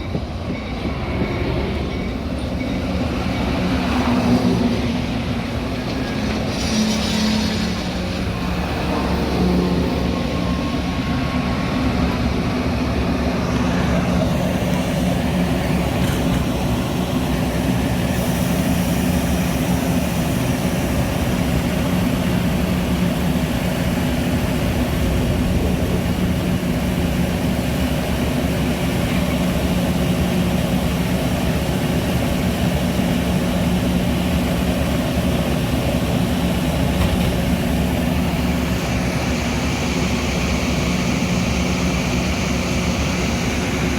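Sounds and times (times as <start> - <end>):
diesel train engine drone: 0.0 - 43.9.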